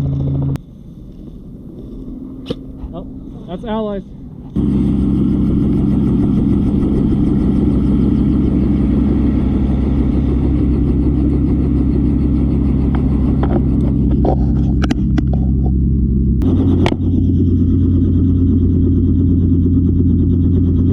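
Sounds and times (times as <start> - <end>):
engine humming steadily: 0.0 - 20.9.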